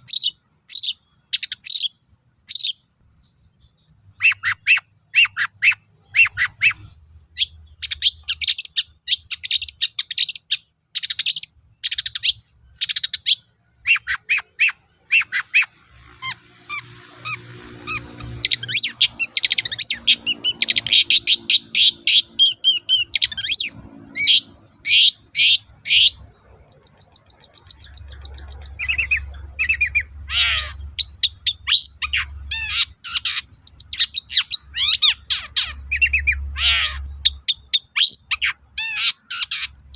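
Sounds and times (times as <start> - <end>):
bird singing harsh chirps: 0.0 - 39.9.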